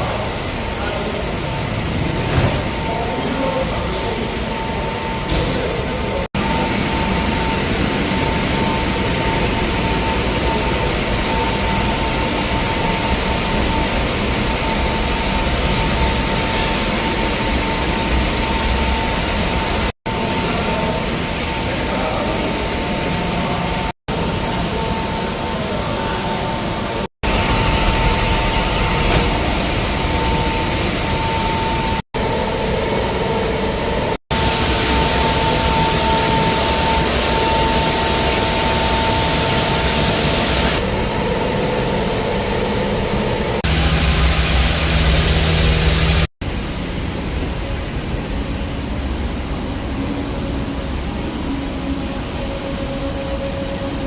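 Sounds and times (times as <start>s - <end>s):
loud machine noise with hiss: 0.0s - 54.0s.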